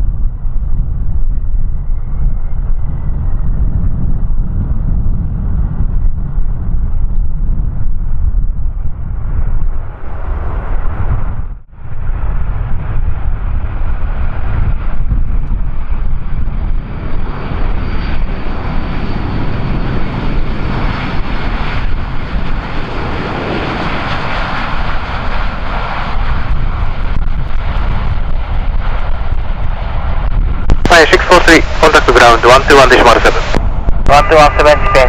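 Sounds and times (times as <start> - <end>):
airliner engines roaring: 0.0 - 35.0
wind rumble on microphone: 0.0 - 35.0.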